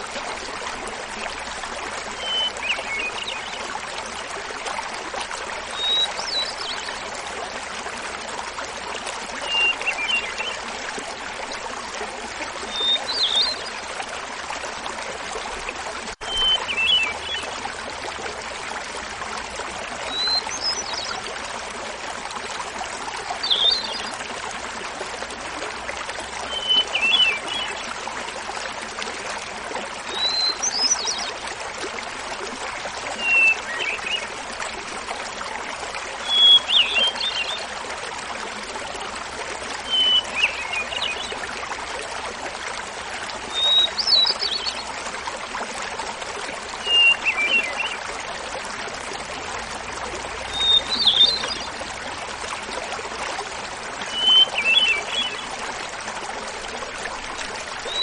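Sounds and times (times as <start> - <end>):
small waterfall babbling: 0.0 - 58.0.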